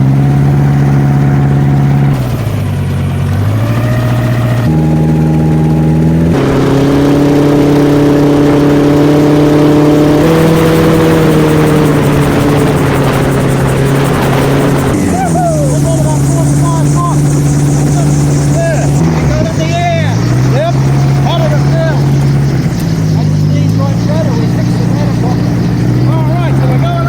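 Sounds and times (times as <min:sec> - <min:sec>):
gyrocopter engine and propeller: 0:00.0 - 0:27.0.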